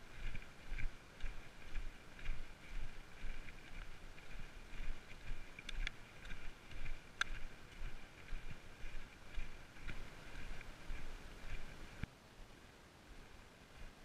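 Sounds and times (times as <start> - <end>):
footsteps on dirt path: 0.0 - 12.1.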